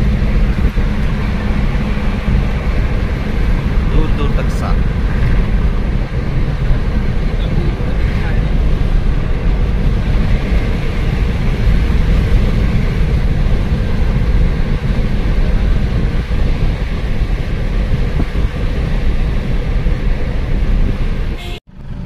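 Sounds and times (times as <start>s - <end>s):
road and wind noise rumble: 0.0s - 22.0s.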